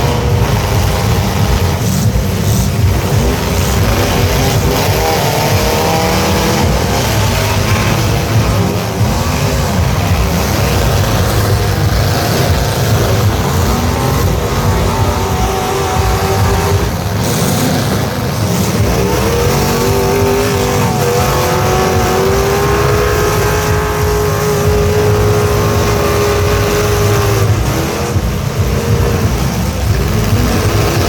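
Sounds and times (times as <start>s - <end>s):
truck engines revving: 0.0s - 31.0s.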